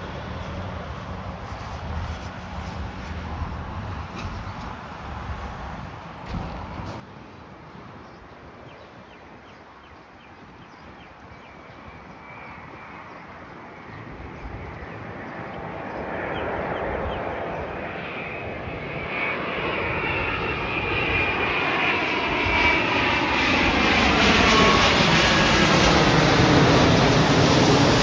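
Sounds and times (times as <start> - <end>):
faint engine whine: 0.0 - 28.0
jet airliner approaching: 0.0 - 28.0.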